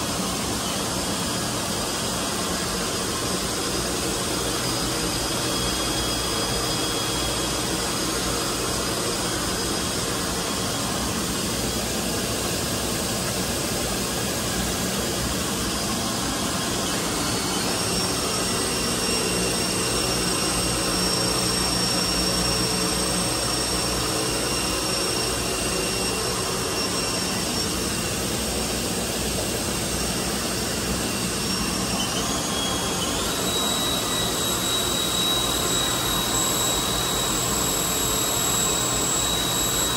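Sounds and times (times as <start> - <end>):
machine spindle whirring and whining: 0.0 - 39.9.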